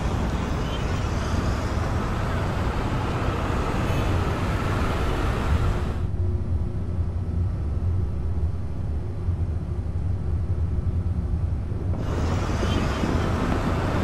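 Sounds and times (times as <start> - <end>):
city street traffic: 0.0 - 8.0, 8.8 - 14.0
steady low rumble: 0.0 - 14.0.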